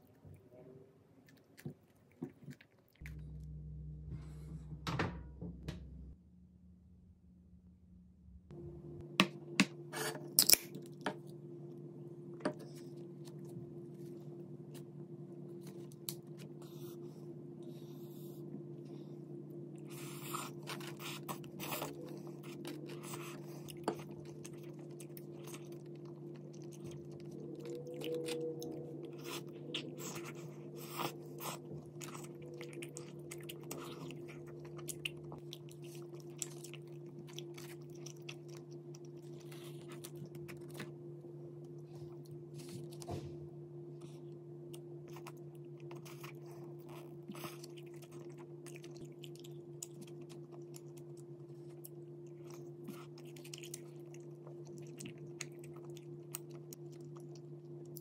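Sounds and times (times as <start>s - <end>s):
steady low hum: 2.9s - 58.0s.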